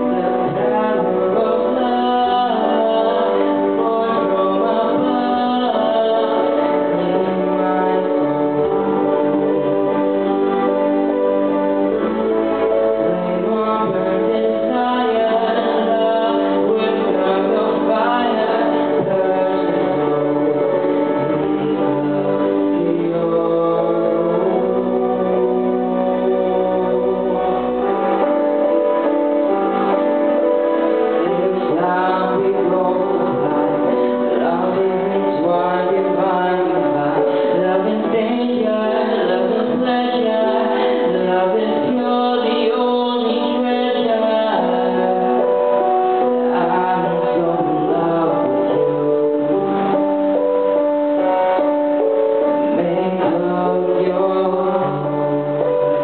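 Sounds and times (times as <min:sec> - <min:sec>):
karaoke backing track: 0:00.0 - 0:56.0
man singing into microphone: 0:00.0 - 0:56.0.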